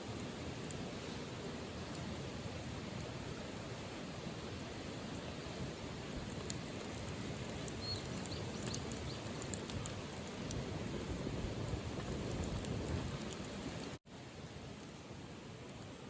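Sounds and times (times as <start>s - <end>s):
raindrops pattering and ticking: 0.0s - 14.0s
light rain: 0.0s - 16.0s.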